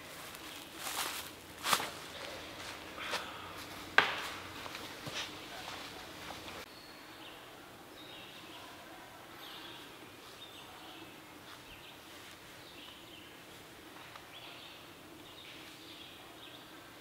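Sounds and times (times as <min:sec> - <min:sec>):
faint outdoor background: 0:00.0 - 0:17.0
wild birds chirping: 0:00.0 - 0:17.0.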